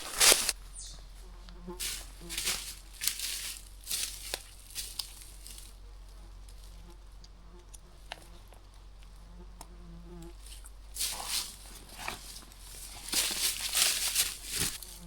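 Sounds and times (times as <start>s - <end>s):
fly buzzing: 0.0s - 4.0s, 4.6s - 15.0s
crunching rustles: 0.0s - 15.0s.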